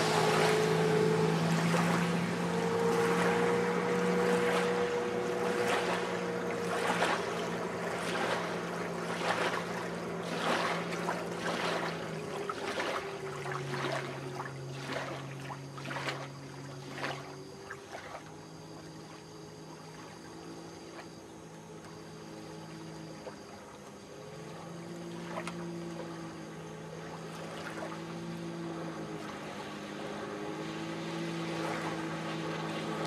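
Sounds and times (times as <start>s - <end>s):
hull slapping on water: 0.0s - 21.2s, 21.8s - 33.0s
jet ski engine running: 0.0s - 33.0s.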